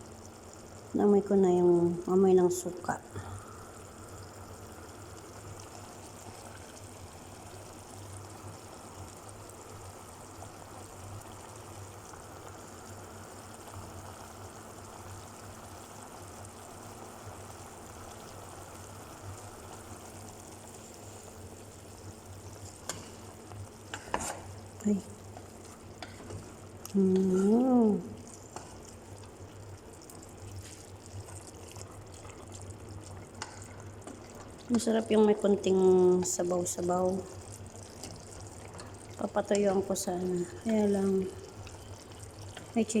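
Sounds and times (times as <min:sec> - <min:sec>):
pot simmering with faint bubbling: 0:00.0 - 0:43.0.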